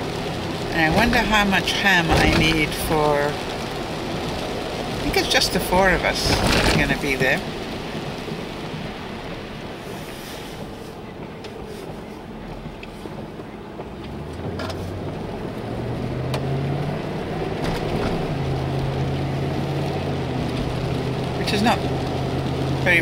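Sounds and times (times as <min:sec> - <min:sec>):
engine low hum: 0:00.0 - 0:23.0
road noise rumble: 0:00.0 - 0:23.0.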